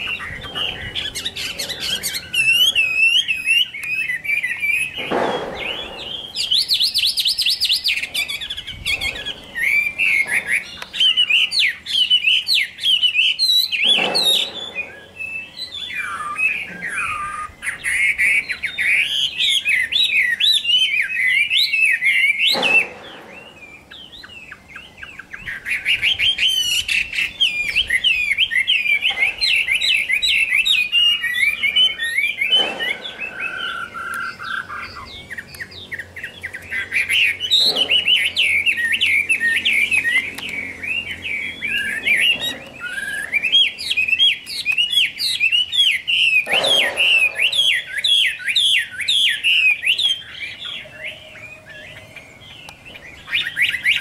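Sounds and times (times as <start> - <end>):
bird singing whistled song: 0.0 - 54.0.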